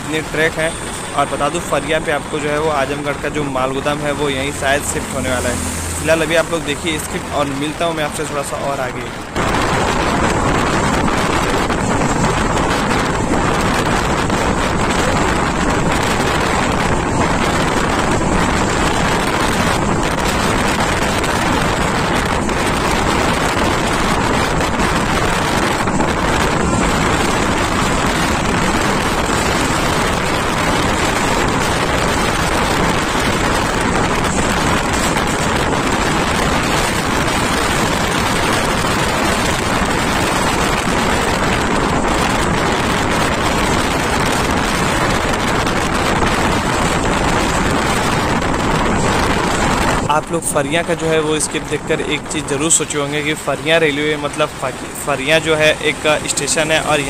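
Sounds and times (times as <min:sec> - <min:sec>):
moving train running noise: 0:00.0 - 0:57.0
wind buffeting microphone: 0:00.0 - 0:57.0.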